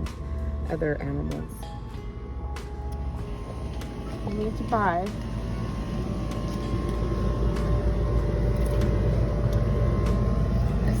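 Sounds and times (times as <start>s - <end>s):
faint steady hum: 0.0s - 11.0s
low mechanical rumble: 0.0s - 11.0s.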